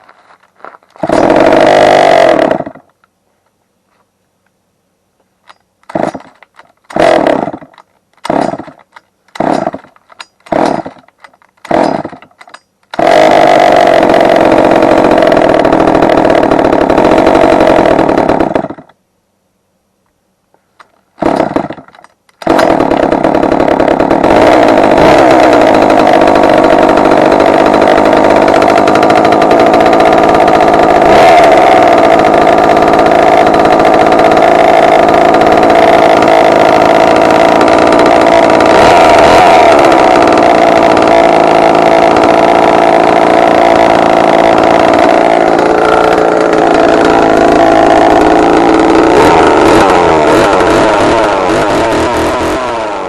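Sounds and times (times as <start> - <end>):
chainsaw engine running: 0.0 - 3.0, 5.8 - 19.0, 20.8 - 53.0.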